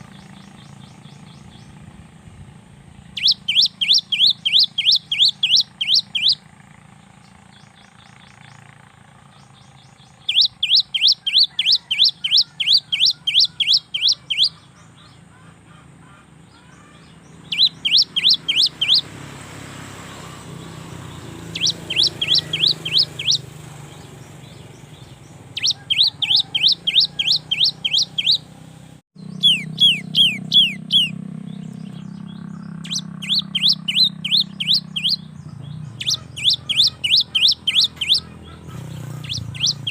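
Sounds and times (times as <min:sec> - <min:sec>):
bird singing clear notes: 0:00.0 - 0:39.9.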